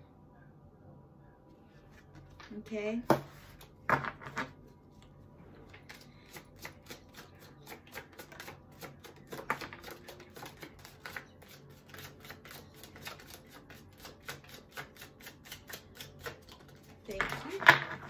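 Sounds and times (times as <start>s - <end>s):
cards being shuffled: 3.2s - 18.0s.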